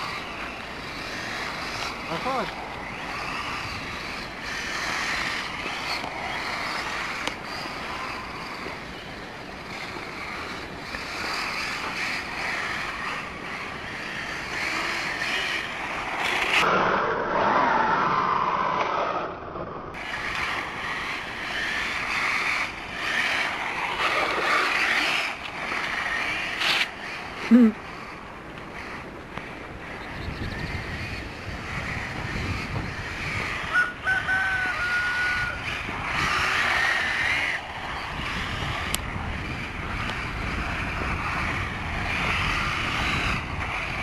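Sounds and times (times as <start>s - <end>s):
rc car motor whine: 0.0s - 16.7s, 20.0s - 44.0s
small tyres on road: 0.0s - 44.0s.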